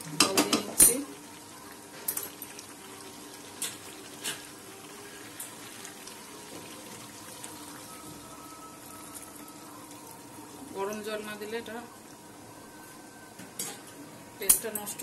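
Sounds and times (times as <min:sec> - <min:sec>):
curry sizzling in oil: 0:00.0 - 0:15.0.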